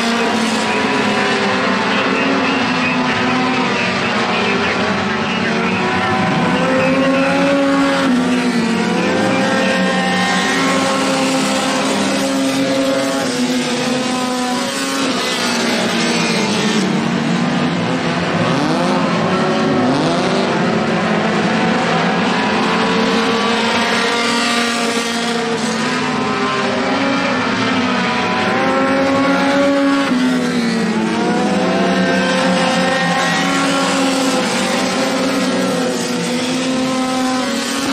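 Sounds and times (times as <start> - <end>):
race car engines: 0.0 - 37.9.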